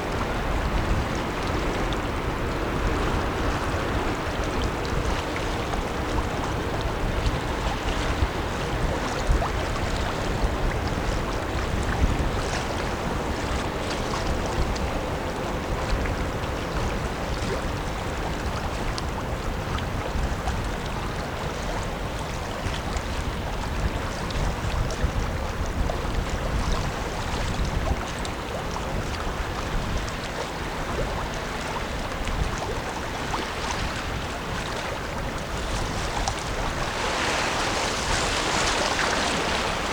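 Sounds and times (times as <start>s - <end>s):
faint ship engine hum: 0.0s - 39.9s
river water: 0.0s - 39.9s
wind rumbling on microphone: 0.0s - 39.9s.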